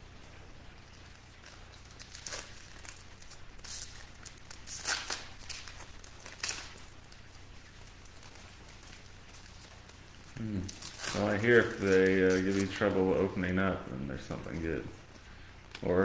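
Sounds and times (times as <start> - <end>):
foil wrapper crinkling: 0.7 - 15.9
foil wrapper tearing: 1.0 - 15.0.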